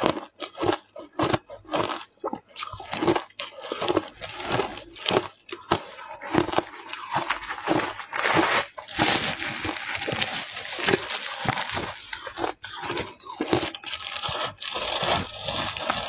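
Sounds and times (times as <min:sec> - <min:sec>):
ice crunching in mouth: 0:00.0 - 0:16.0.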